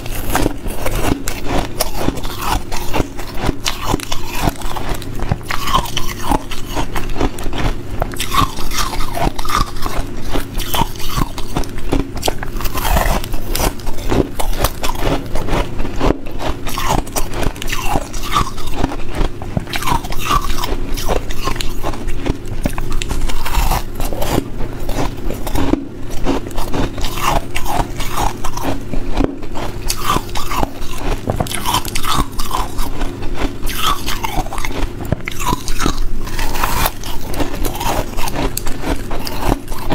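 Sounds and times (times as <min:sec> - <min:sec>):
person chewing ice crunching: 0:00.0 - 0:39.9.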